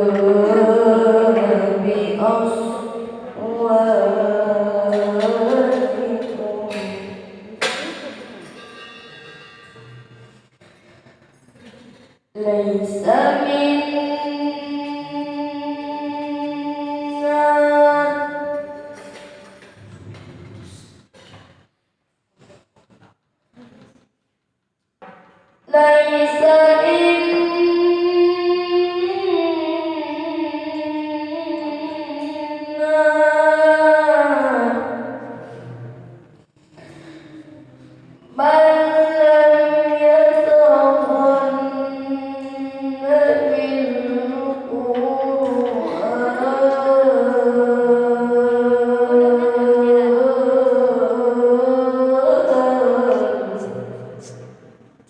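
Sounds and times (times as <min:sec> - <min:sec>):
person chanting melodically: 0:00.0 - 0:10.4, 0:12.4 - 0:20.9, 0:25.7 - 0:54.8.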